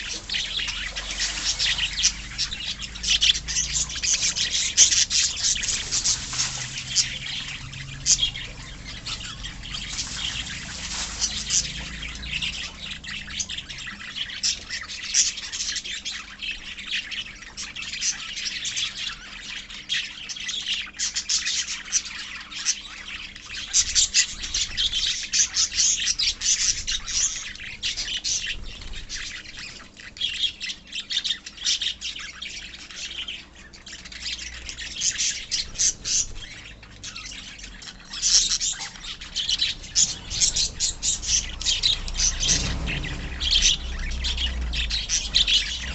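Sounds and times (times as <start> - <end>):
birds chirping and squawking: 0.0 - 45.9.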